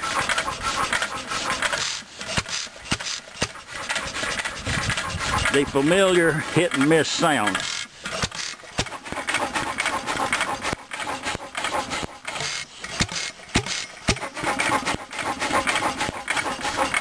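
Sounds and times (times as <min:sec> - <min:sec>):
engine firing strokes: 0:00.0 - 0:17.0
valve gear clattering: 0:00.0 - 0:17.0.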